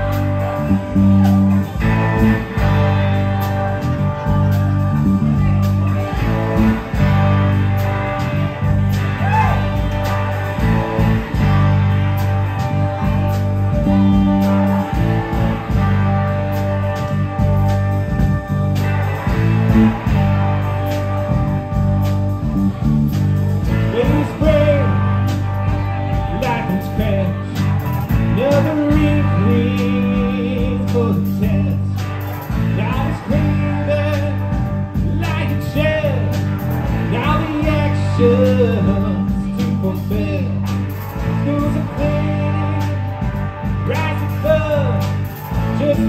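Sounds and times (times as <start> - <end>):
male lead vocals: 0.0 - 17.1, 23.6 - 46.0
drum kit: 0.0 - 46.0
electric bass: 0.0 - 46.0
electric guitars: 0.0 - 46.0.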